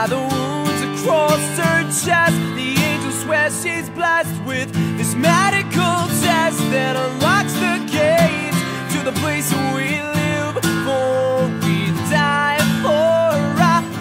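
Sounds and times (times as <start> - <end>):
guitar-driven song: 0.0 - 14.0.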